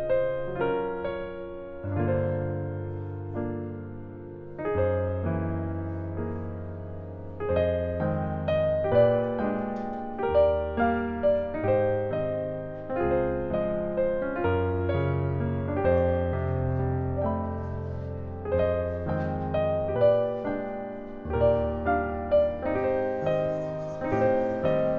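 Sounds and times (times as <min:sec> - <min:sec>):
solo piano music: 0:00.0 - 0:24.9.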